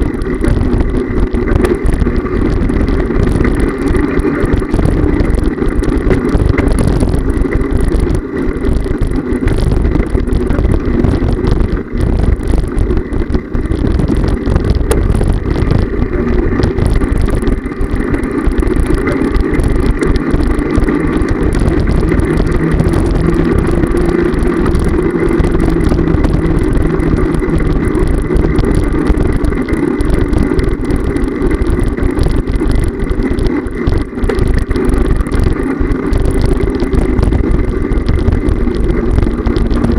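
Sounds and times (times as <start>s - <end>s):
wheels rolling over paving: 0.0s - 39.9s
wind buffeting microphone: 0.0s - 39.9s.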